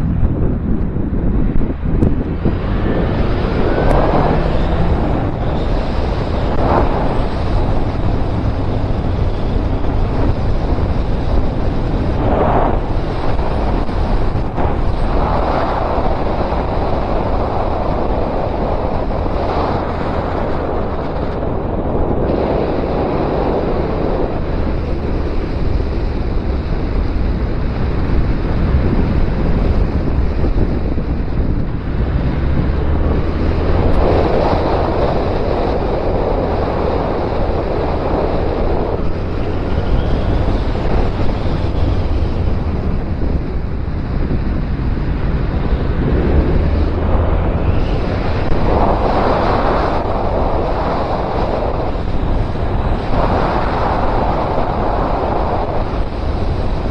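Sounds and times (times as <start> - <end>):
motorcycle low rumble: 0.0 - 56.9
wind rushing over microphone: 0.0 - 56.9.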